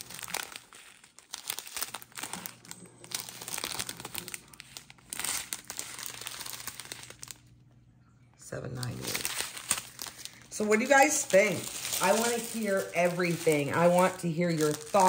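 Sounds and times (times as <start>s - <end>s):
plastic bags crinkling: 0.0s - 7.7s, 8.7s - 15.0s.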